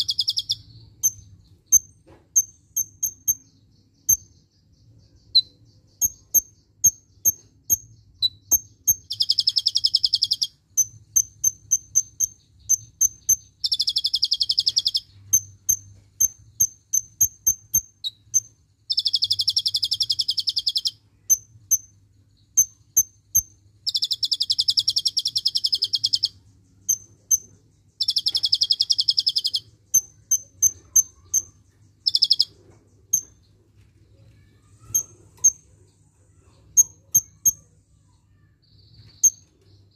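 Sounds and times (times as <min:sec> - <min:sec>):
bird rapid trill: 0:00.0 - 0:33.5, 0:34.4 - 0:38.4
bird chirping high: 0:00.0 - 0:39.9.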